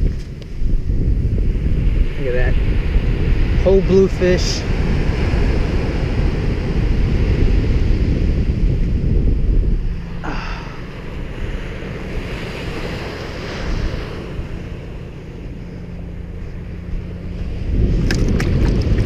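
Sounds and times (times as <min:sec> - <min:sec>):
wind buffeting microphone: 0:00.0 - 0:19.0
ocean surf breaking: 0:01.6 - 0:19.0.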